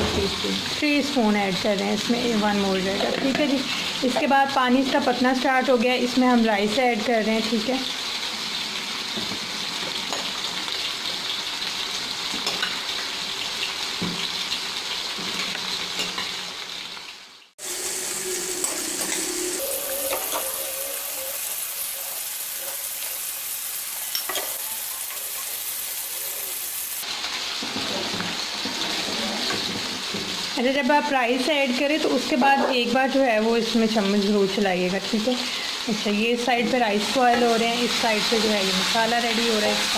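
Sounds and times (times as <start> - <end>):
pot of water boiling: 0.0 - 39.9
vegetables sizzling in a frying pan: 0.0 - 39.9.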